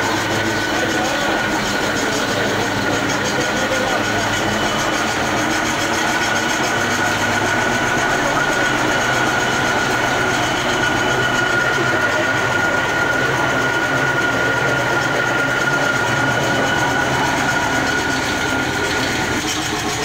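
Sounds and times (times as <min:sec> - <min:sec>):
constant high tone: 0:00.0 - 0:20.0
veneer lathe mechanical clatter: 0:00.0 - 0:20.0.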